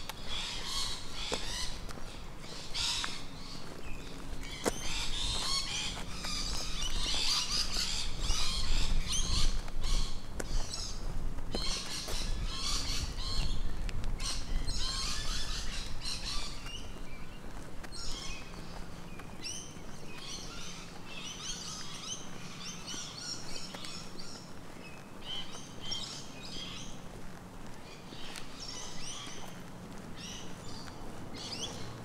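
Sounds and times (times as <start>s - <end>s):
birds chirping and trilling: 0.0s - 27.1s, 27.7s - 29.6s, 30.2s - 32.0s.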